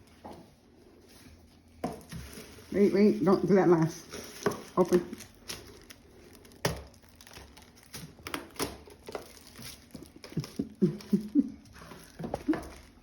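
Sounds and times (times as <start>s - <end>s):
packaging crinkling: 2.0s - 13.0s.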